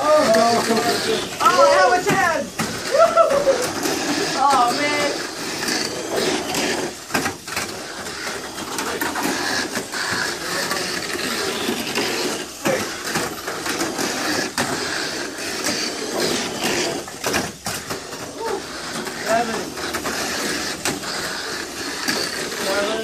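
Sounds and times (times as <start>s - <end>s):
small electric motors whirring: 0.0s - 23.0s
toy cars clattering on track: 0.0s - 23.0s.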